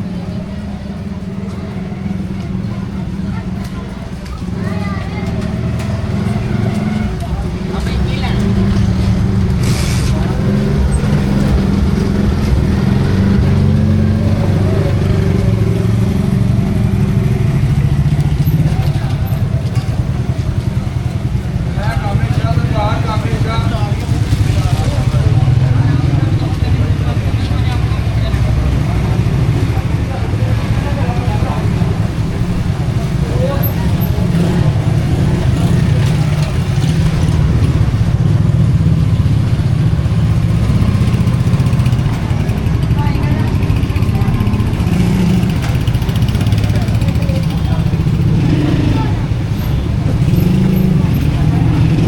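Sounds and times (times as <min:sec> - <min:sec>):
vehicle engine humming: 0:00.0 - 0:52.0.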